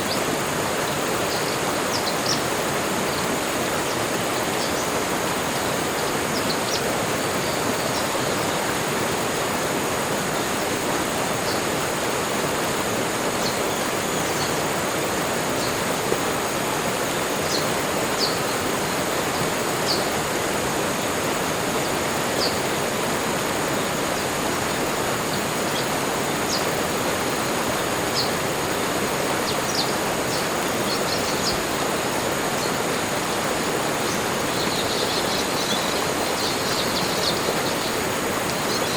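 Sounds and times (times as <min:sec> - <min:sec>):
steady rushing background noise: 0:00.0 - 0:38.9.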